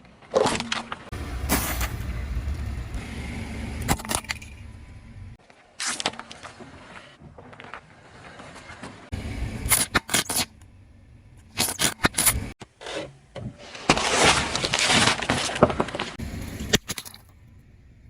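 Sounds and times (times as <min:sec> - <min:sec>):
car tyre crunching items: 0:00.1 - 0:18.0.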